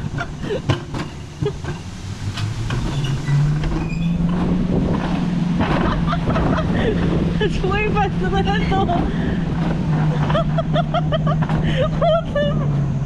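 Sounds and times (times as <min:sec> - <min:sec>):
low hum rising in pitch: 0:00.0 - 0:13.0
sled rumbling on metal rail: 0:00.0 - 0:13.0.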